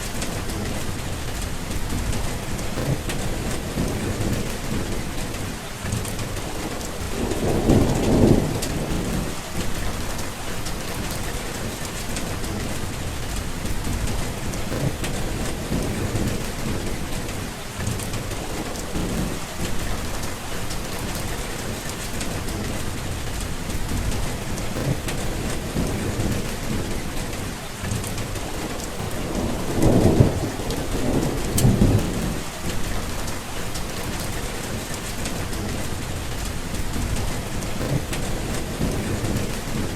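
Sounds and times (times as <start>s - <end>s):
steady rain falling: 0.0s - 39.9s
thunder rumbling low: 0.0s - 39.9s.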